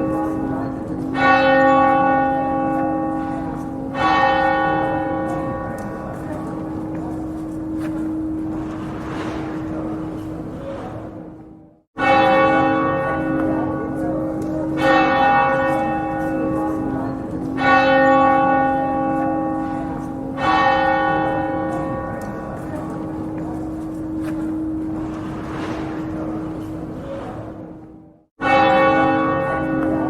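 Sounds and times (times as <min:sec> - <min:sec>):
church bell tolling: 0:00.0 - 0:30.0.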